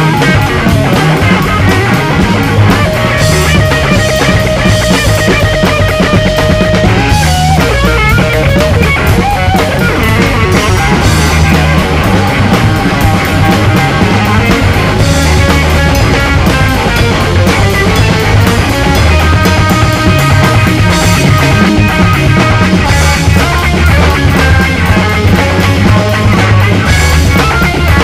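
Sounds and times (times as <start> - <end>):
bending guitar notes: 0.0 - 28.0
electric guitar: 0.0 - 28.0
rock drum kit: 0.0 - 28.0.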